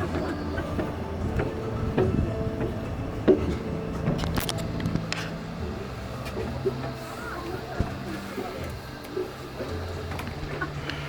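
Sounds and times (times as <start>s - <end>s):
faint voices: 0.0s - 11.0s
ride machinery drone: 0.0s - 11.0s.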